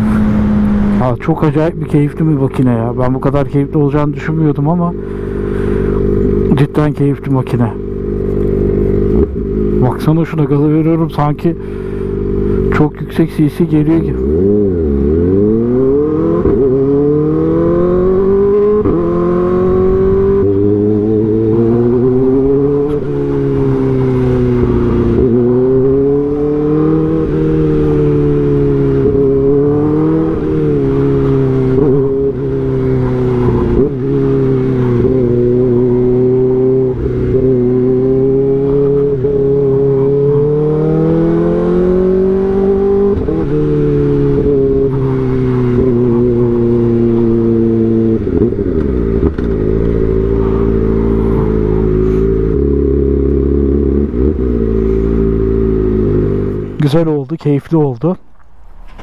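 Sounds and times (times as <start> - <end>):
motorcycle engine revving: 0.0 - 57.1.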